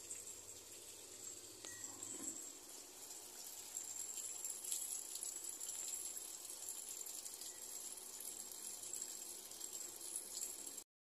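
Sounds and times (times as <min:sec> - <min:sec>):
water pouring into washing machine: 0:00.0 - 0:10.9.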